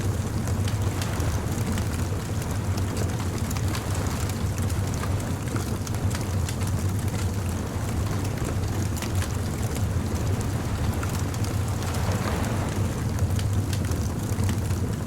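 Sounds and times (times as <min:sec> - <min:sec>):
bonfire crackling: 0:00.0 - 0:15.0
low fire rumble: 0:00.0 - 0:15.0.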